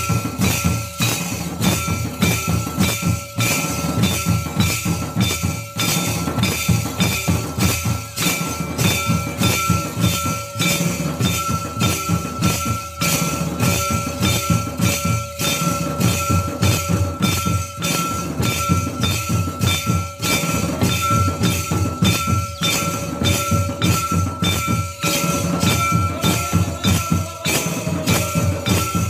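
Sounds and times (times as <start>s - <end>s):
barrel drum beating: 0.0s - 29.0s
steady high tone: 0.0s - 29.0s.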